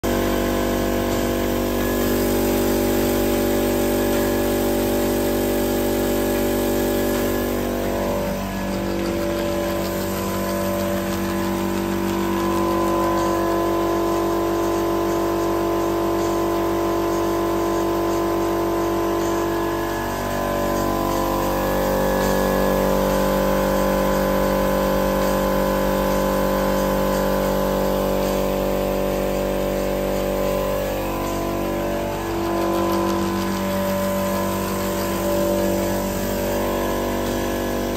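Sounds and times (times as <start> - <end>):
machine conveyor hum: 0.0 - 37.9.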